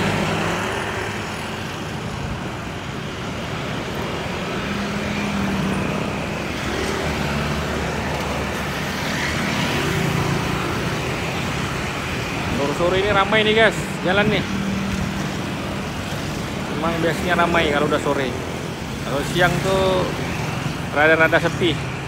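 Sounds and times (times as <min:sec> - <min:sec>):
motor scooters passing: 0:00.0 - 0:22.0.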